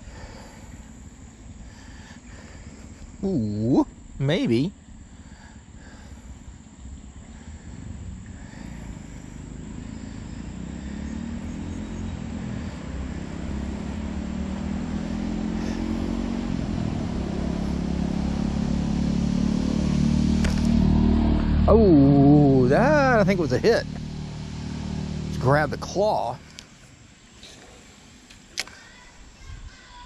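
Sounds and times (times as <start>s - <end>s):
vehicle engine droning: 0.0s - 29.9s.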